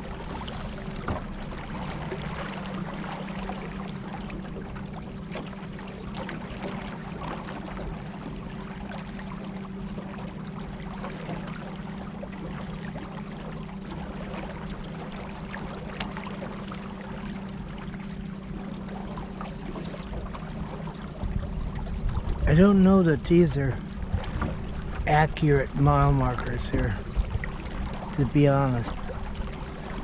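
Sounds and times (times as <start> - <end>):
water splashing along hull: 0.0 - 30.0.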